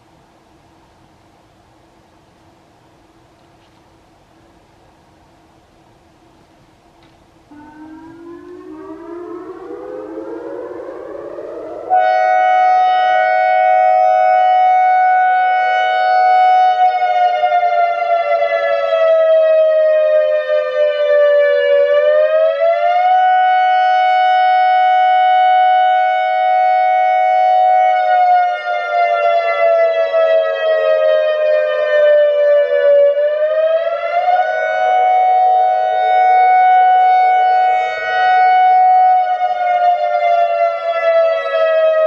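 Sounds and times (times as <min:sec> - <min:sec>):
warning siren wailing: 0:07.5 - 0:42.0.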